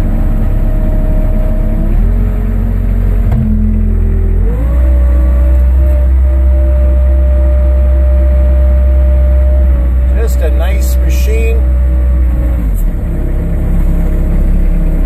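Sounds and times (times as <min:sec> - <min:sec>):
diesel engine throttling up: 0:00.0 - 0:15.0.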